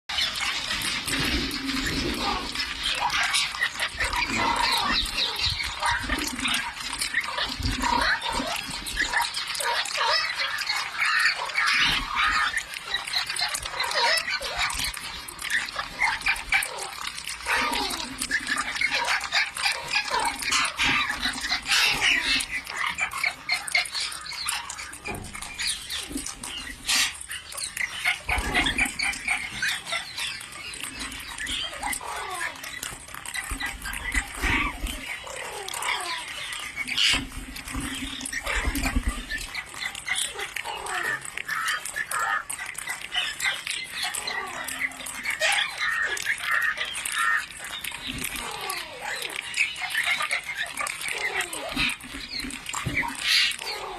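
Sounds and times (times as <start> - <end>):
parrots squawking and chattering: 0.1 - 53.9.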